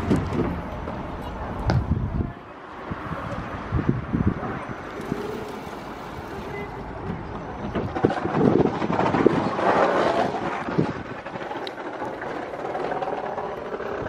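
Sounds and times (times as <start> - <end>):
train machinery hum: 0.0 - 14.0
wind buffeting microphone: 0.0 - 14.0.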